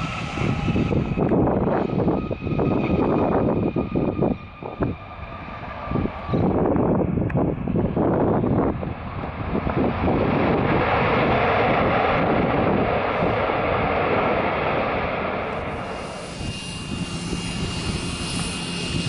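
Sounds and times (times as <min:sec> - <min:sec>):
jet engine high whine: 0:00.0 - 0:19.0
jet engine roar: 0:00.0 - 0:19.0.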